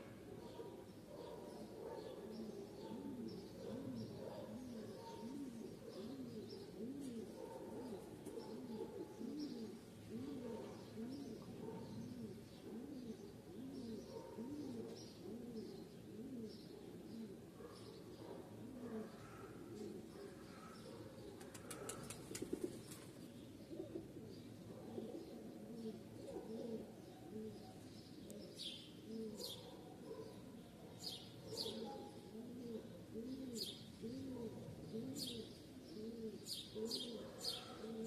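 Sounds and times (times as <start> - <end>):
dove cooing: 0.0 - 30.6, 31.4 - 38.0
songbird chirping: 0.0 - 38.0.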